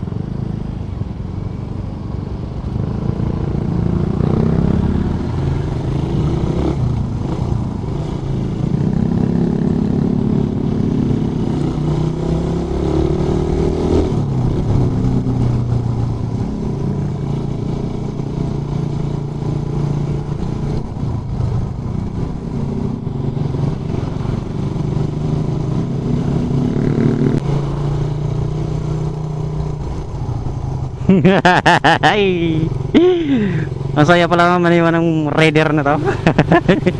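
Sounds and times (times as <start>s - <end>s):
motorcycle engine accelerating: 2.7s - 34.4s.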